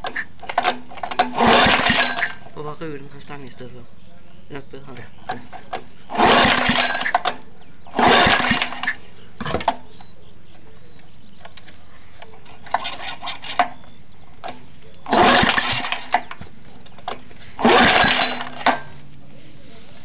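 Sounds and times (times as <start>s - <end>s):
recoil starter pulls: 0.0s - 3.7s, 4.7s - 10.0s, 11.4s - 20.0s.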